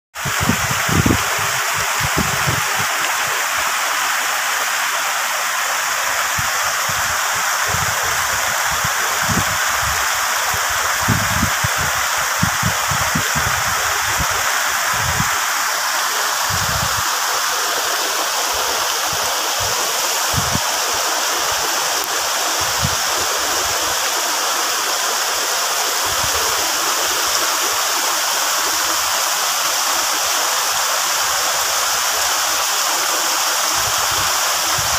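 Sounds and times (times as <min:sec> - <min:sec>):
rain on leaves: 0:00.2 - 0:34.9.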